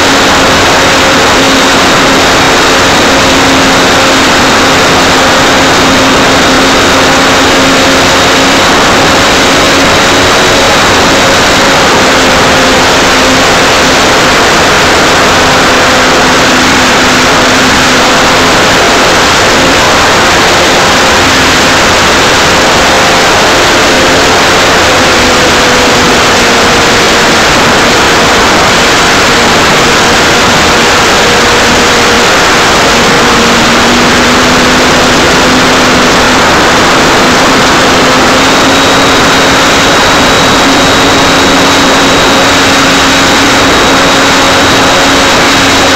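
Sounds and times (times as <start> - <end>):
loud rush of wind: 0.0 - 45.9
model plane motor hum: 0.0 - 45.9.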